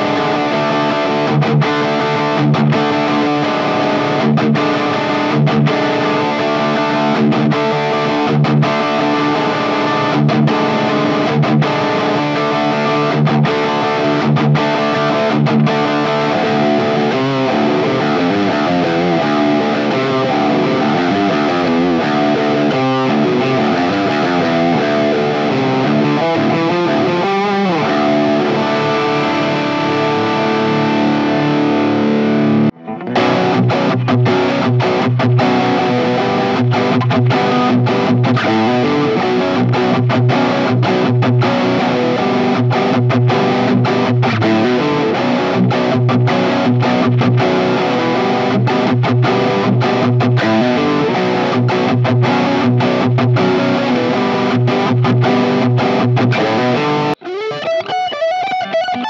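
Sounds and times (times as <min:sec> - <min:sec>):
distorted electric guitar: 0:00.0 - 0:59.0.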